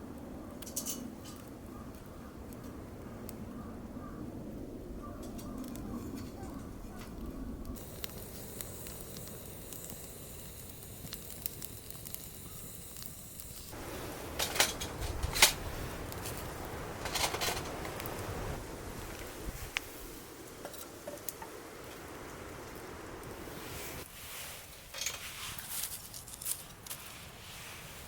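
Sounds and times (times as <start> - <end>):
campfire crackling and popping: 0.0 - 4.6, 5.2 - 24.6.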